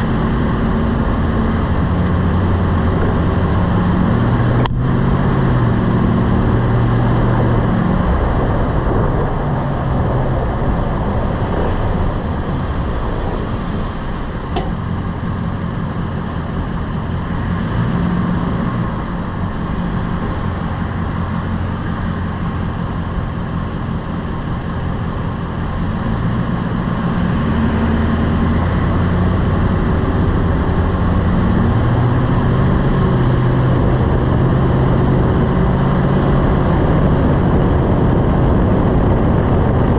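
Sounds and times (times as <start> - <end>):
pickup truck engine: 0.0 - 39.9.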